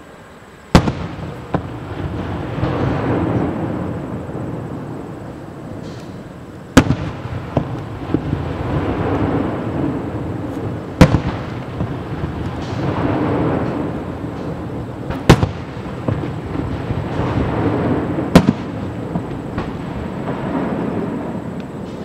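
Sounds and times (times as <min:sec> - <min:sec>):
rolling rumble: 0:00.5 - 0:22.0
fireworks bangs: 0:00.7 - 0:22.0
small fireworks pops: 0:00.7 - 0:22.0.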